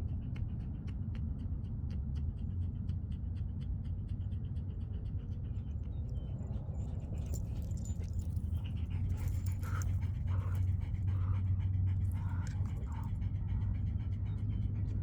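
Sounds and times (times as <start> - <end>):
dog panting: 0.0 - 15.0
steady low rumble: 0.0 - 15.0.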